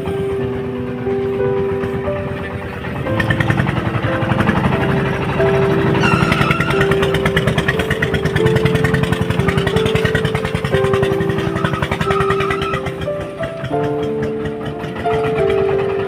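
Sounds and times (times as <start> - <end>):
small engine running steadily: 0.0 - 16.0.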